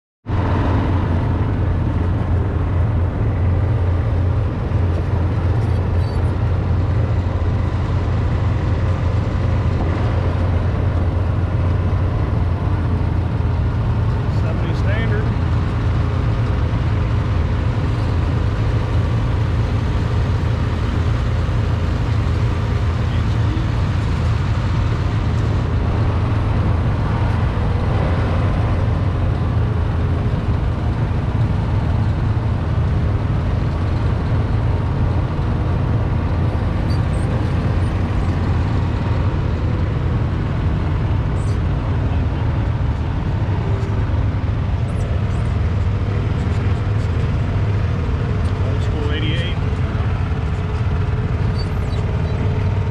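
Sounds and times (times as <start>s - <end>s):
utility vehicle engine rumbling: 0.2s - 52.9s.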